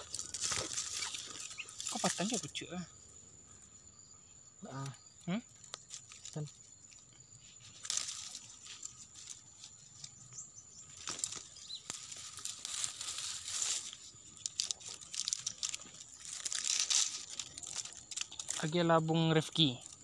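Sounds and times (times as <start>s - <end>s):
rustling and crackling: 0.0s - 2.6s, 5.5s - 20.0s.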